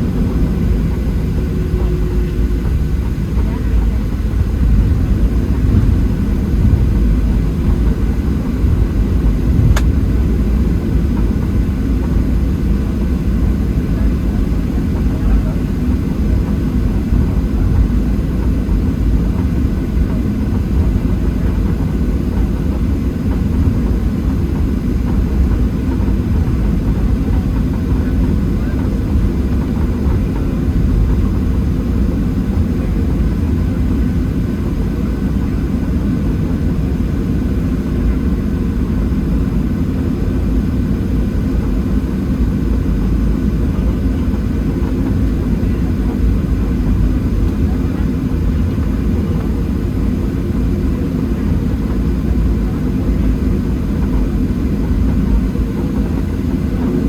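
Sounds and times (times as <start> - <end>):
airplane cabin low rumble: 0.0 - 57.0
faint jet engine whine: 0.0 - 57.0.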